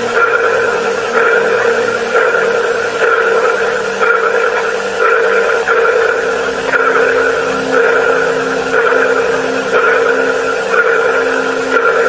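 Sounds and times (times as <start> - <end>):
pulsing sonar-like ping: 0.0 - 12.0
steady hum: 0.0 - 12.0.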